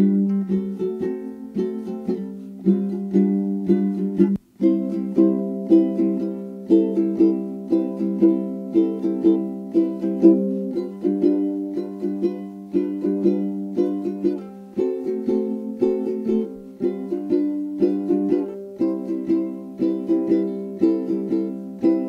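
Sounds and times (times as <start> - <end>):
plucked-string tune: 0.0 - 22.0.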